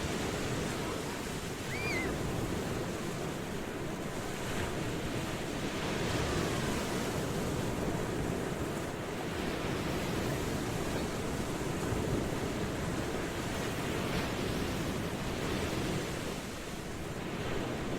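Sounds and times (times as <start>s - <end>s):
ocean surf washing: 0.0s - 17.9s.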